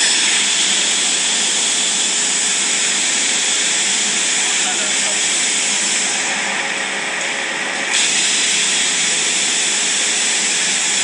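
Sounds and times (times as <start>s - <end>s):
cnc machine hissing: 0.0s - 7.1s, 7.9s - 11.0s.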